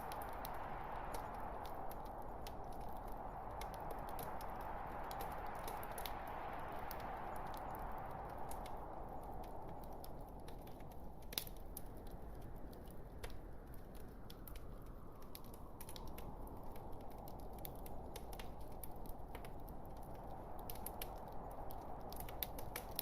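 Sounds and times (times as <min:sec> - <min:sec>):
wood fire burning: 0:00.0 - 0:23.0.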